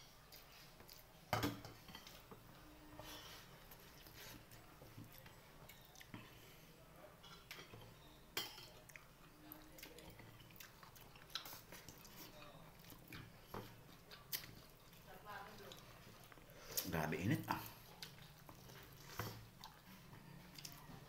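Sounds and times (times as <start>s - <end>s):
person chewing food: 0.0s - 2.5s, 3.3s - 6.6s, 7.4s - 21.0s.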